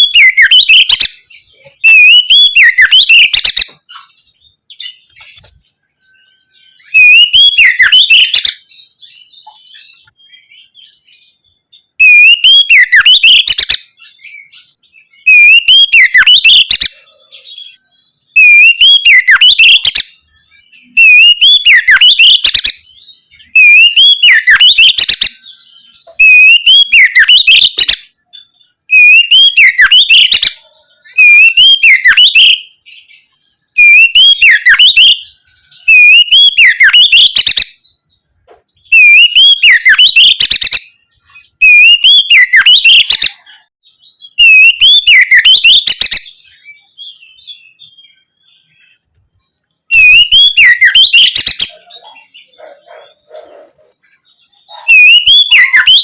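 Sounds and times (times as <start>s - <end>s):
bird whistling song phrase: 0.0s - 38.0s, 38.8s - 56.0s.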